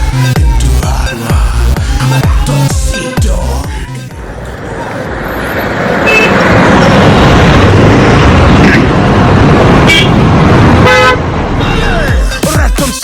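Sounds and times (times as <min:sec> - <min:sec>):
highway traffic rushing: 0:00.0 - 0:13.0.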